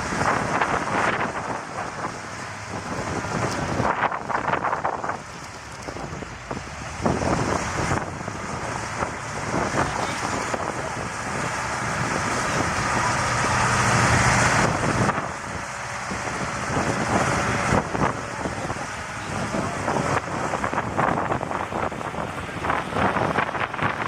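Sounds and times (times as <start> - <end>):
off-road vehicle engine: 0.0 - 24.0
wind buffeting microphone: 0.0 - 24.0.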